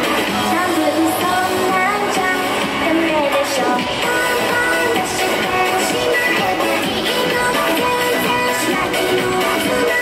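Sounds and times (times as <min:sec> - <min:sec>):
pop dance music with singing: 0:00.0 - 0:10.0.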